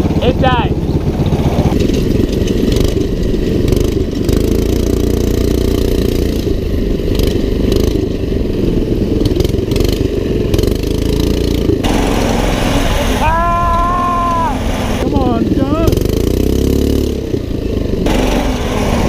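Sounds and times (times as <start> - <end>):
go-kart engine running hard: 0.0 - 19.0
rattling: 0.0 - 19.0.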